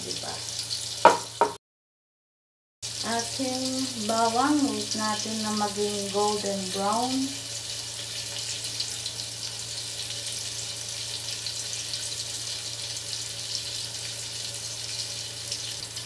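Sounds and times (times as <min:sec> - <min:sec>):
garlic sizzling in butter: 0:00.0 - 0:01.6, 0:02.8 - 0:16.0.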